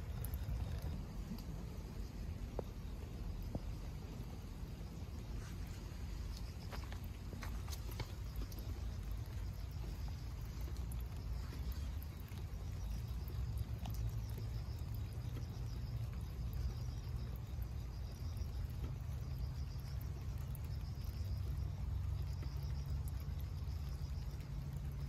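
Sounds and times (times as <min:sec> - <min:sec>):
insects chirping trill: 0:00.0 - 0:25.0
low steady rumble: 0:00.0 - 0:25.0
rainwater dripping: 0:00.0 - 0:25.0.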